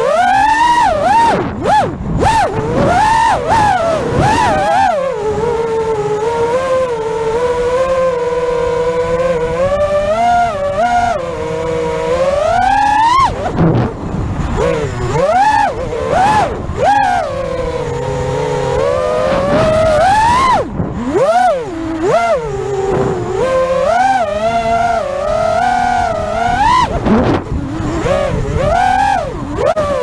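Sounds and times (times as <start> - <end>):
drone motors and propellers whining: 0.0 - 30.0.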